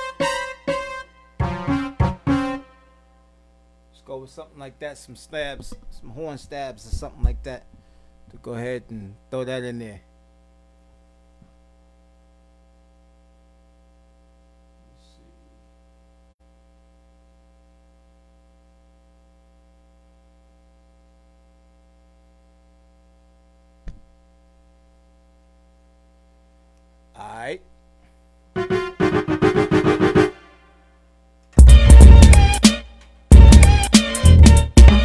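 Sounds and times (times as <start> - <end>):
electrical mains hum: 0.0 - 32.2.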